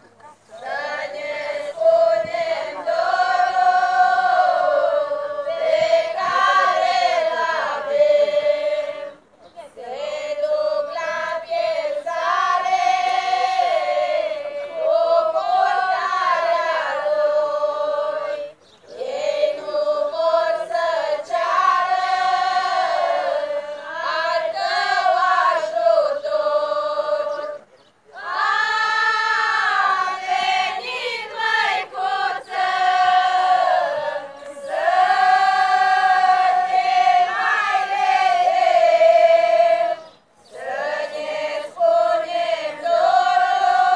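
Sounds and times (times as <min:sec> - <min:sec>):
women singing in unison: 0:00.4 - 0:43.9.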